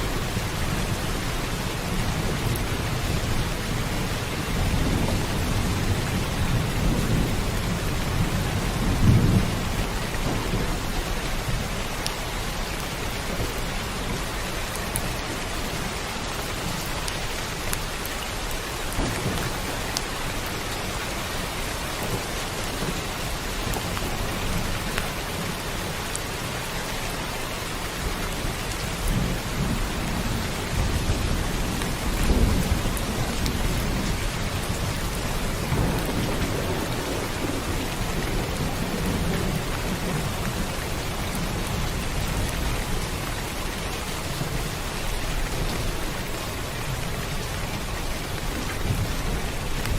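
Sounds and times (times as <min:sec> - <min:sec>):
rolling thunder: 0:00.0 - 0:14.3, 0:18.3 - 0:25.5, 0:28.5 - 0:49.9
heavy rain hissing: 0:00.0 - 0:49.9.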